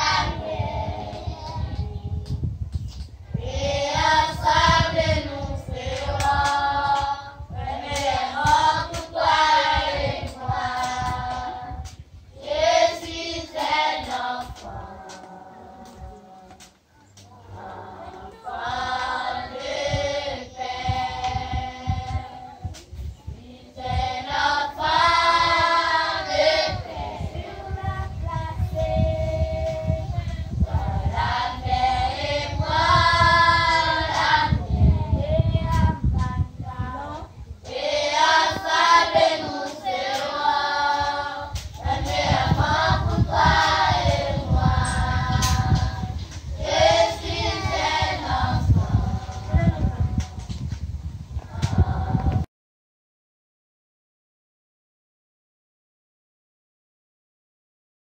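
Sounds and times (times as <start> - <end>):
children singing together: 0.0 - 2.4, 3.3 - 50.6, 51.4 - 52.5.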